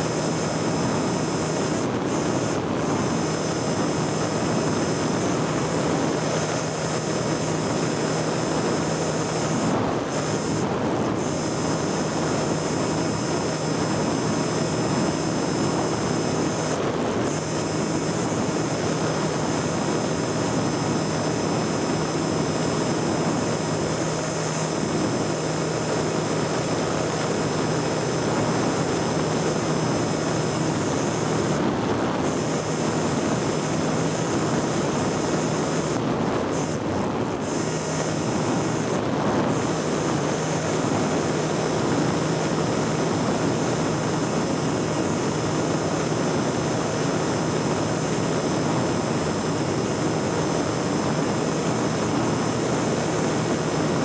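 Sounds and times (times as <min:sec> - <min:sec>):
rushing wind: 0:00.0 - 0:54.0
small aircraft engine droning: 0:00.0 - 0:54.0.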